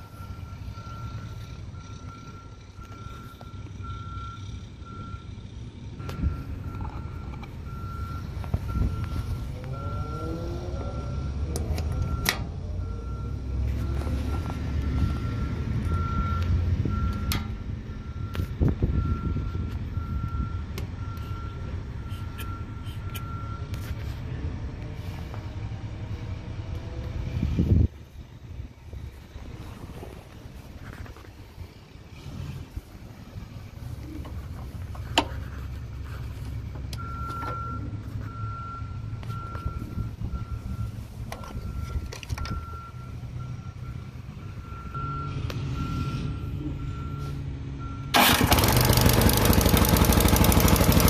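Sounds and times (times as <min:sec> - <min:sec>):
vehicle backup alarm beeping: 0:00.0 - 0:24.2, 0:29.3 - 0:51.0.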